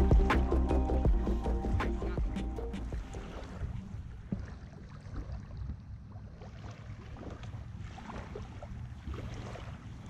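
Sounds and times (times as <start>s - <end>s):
water splashing and dripping: 0.0s - 10.0s.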